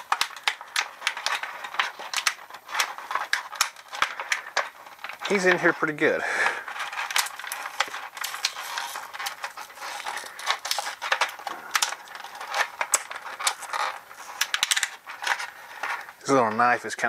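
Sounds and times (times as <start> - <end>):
plastic packaging crackling and clicking: 0.0 - 17.0.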